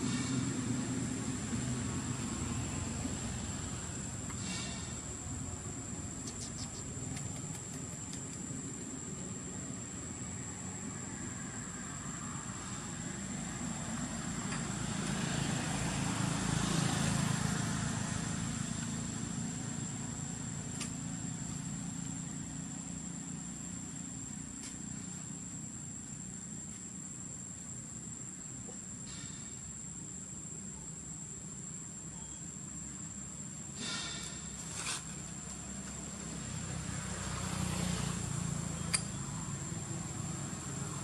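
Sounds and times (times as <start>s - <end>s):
vehicle engine rumble passing: 0.0s - 25.5s, 33.1s - 41.0s.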